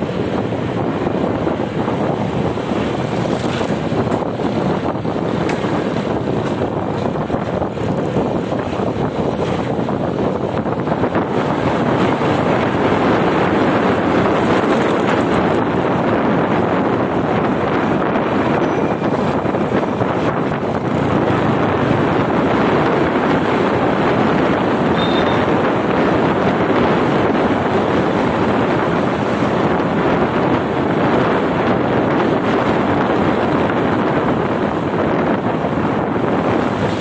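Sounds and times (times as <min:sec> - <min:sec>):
road noise: 0:00.0 - 0:37.0
wind rushing over microphone: 0:00.0 - 0:37.0.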